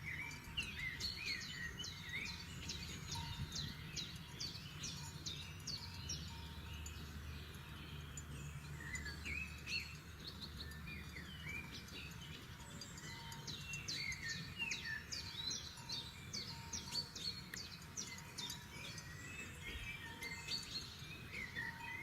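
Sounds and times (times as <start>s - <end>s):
songbirds chirping and trilling: 0.0s - 22.0s.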